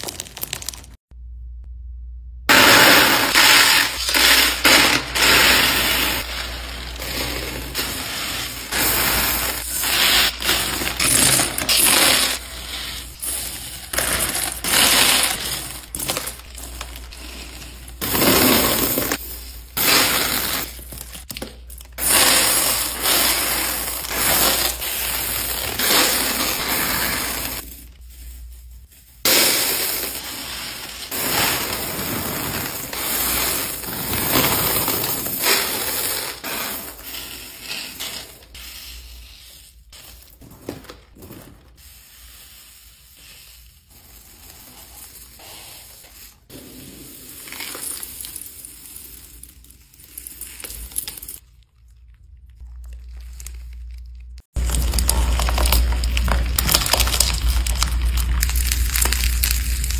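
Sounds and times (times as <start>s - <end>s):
plastic beads pouring and rattling: 0.0s - 1.0s, 2.5s - 40.4s, 41.1s - 51.4s, 54.6s - 59.9s.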